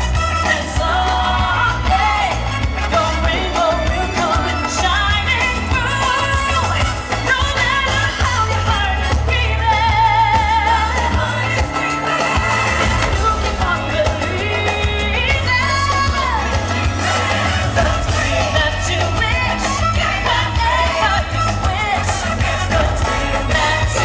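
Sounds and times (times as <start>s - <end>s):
loud pop music with singer: 0.0s - 24.0s.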